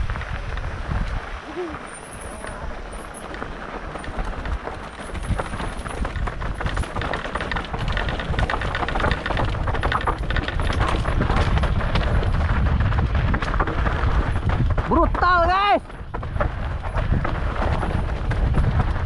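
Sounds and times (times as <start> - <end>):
bike clattering and rattling: 0.0 - 19.0
bike tyres rolling over dirt and rocks: 0.0 - 19.0.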